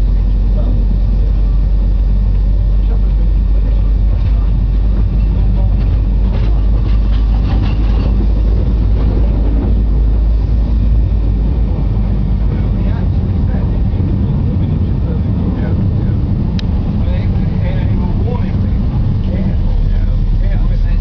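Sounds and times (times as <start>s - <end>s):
train carriage rumbling: 0.0s - 21.0s.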